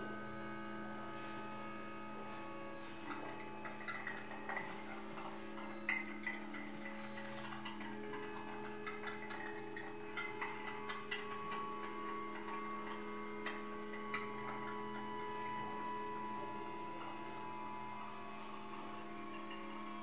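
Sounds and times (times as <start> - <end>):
low drone: 0.0 - 20.0
small clicks and ticks: 3.0 - 20.0.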